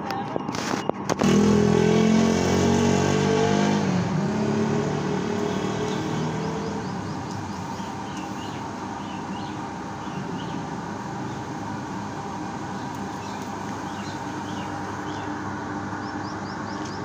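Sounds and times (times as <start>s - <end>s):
vehicle engine passing by: 1.2s - 15.3s.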